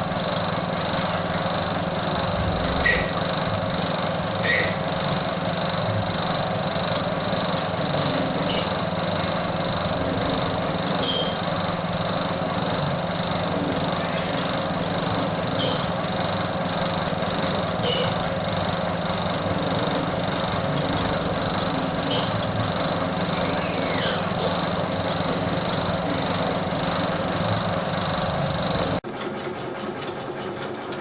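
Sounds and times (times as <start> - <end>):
machine motor hum with pulsing rattle: 0.0 - 31.0.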